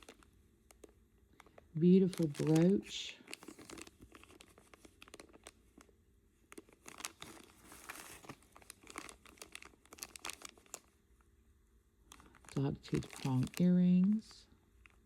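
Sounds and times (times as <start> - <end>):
plastic bags crinkling: 0.0 - 11.1, 12.0 - 15.0.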